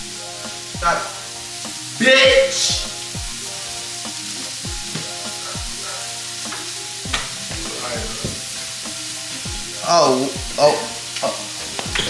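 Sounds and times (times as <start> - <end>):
food sizzling in a pan: 0.0 - 12.0
hip-hop beat: 0.0 - 12.0.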